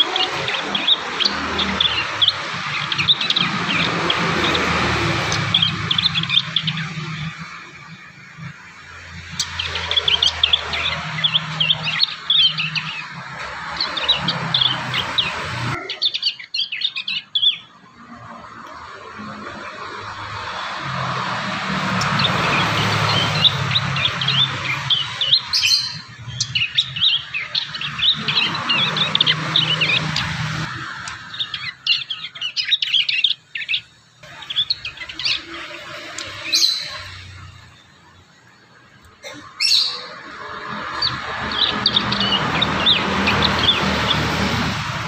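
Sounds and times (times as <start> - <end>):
young birds chirping: 0.0 - 17.8, 18.6 - 45.0.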